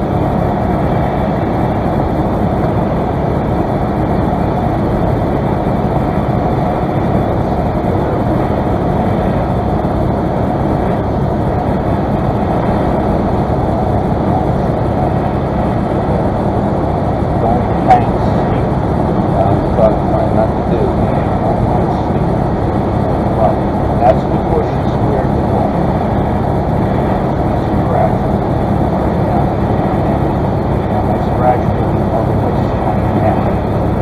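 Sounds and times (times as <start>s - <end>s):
propeller engine noise in cockpit: 0.0s - 34.0s.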